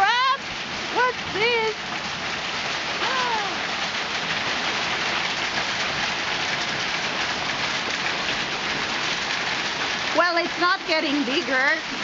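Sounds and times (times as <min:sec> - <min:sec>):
heavy rain and hail pouring: 0:00.0 - 0:12.0.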